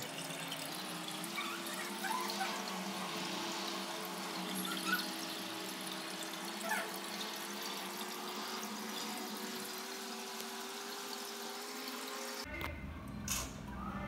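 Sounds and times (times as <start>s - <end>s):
aquarium water bubbling: 0.0s - 12.1s.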